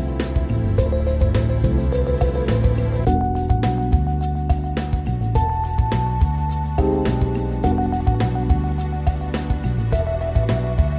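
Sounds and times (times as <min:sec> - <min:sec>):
background music with steady beat: 0:00.0 - 0:10.9.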